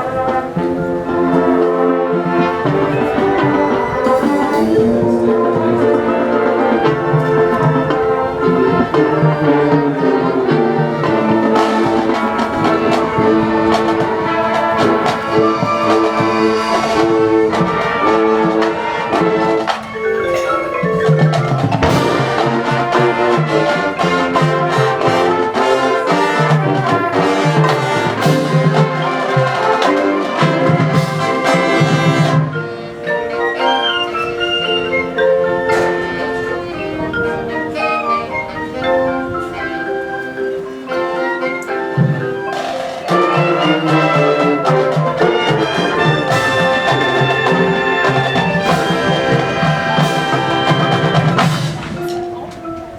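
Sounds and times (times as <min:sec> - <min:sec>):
brass: 0:00.0 - 0:52.9
mallet instruments: 0:00.0 - 0:52.9
percussion: 0:00.0 - 0:52.9.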